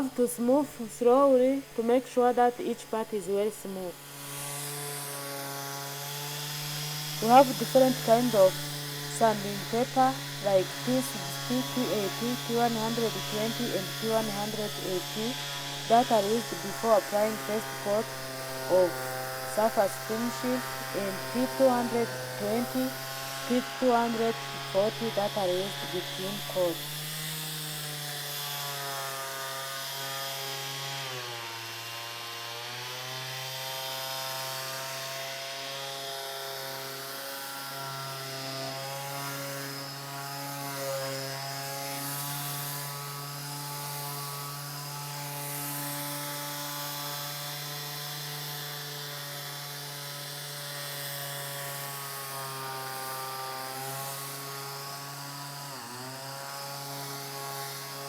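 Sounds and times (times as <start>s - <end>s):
electric sander on wood: 0.0s - 58.0s.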